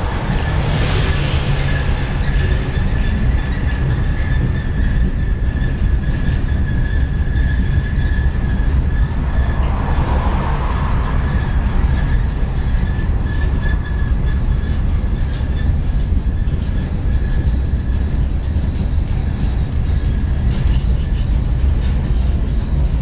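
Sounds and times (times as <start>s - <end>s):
high-pitched wheel squeal: 0.0s - 23.0s
train cars rumbling: 0.0s - 23.0s.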